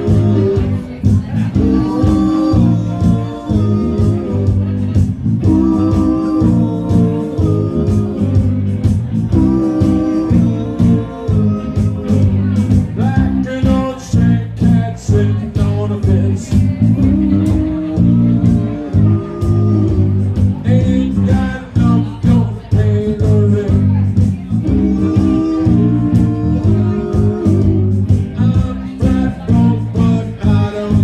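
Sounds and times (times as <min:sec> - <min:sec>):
live rockabilly band playing: 0:00.0 - 0:31.0.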